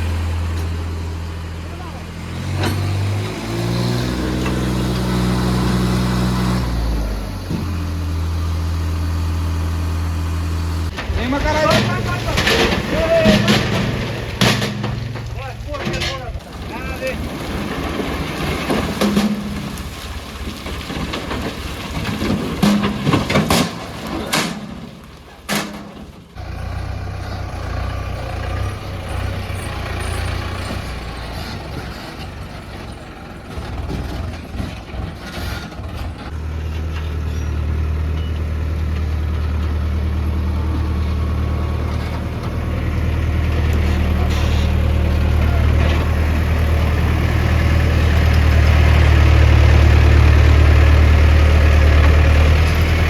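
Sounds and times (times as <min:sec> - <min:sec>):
diesel engine running: 0:00.0 - 0:53.0
engine knocks: 0:00.0 - 0:53.0.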